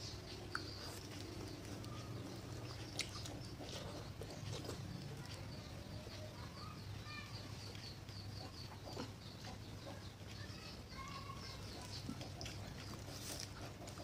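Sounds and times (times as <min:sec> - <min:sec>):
soft chewing: 0:00.0 - 0:06.6, 0:07.2 - 0:14.0
small birds chirping: 0:00.0 - 0:14.0.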